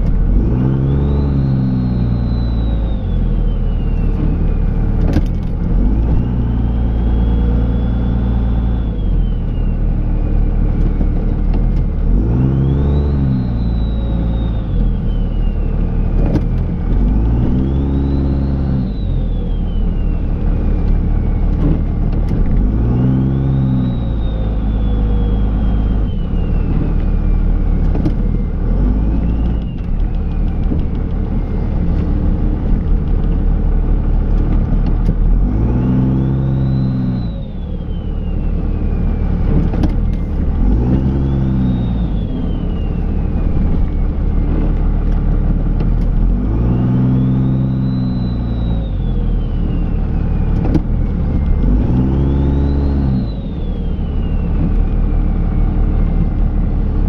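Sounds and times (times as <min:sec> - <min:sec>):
diesel truck engine revving: 0:00.0 - 0:57.0
turbo whine: 0:00.0 - 0:57.0.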